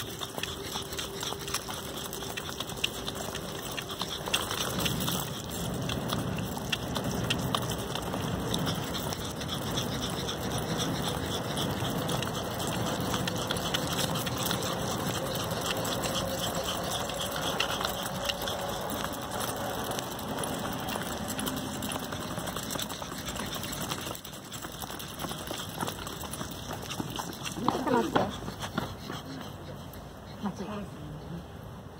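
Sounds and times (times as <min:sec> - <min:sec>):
steady background noise: 0:00.0 - 0:31.9.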